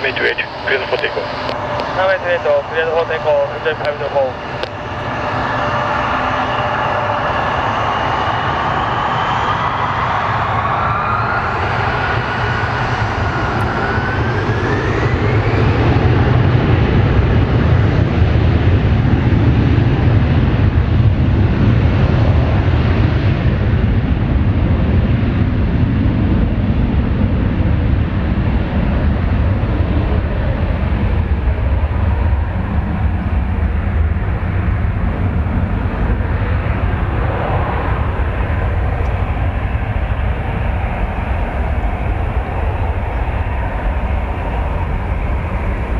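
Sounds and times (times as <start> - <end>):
jet engines rumbling with whine: 0.0 - 45.9.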